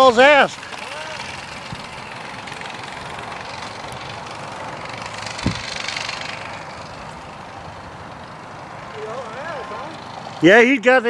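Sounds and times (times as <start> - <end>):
distant small engine running: 0.0 - 11.0.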